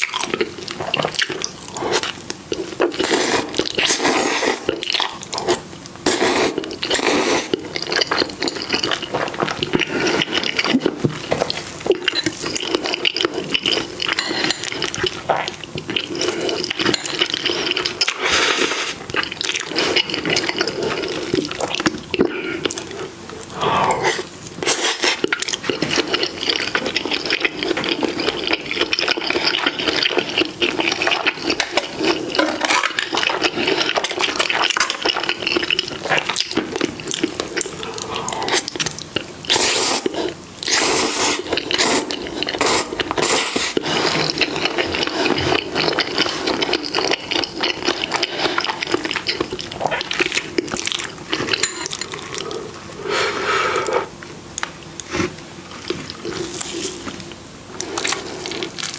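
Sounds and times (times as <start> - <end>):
wet chewing: 0.0 - 58.9.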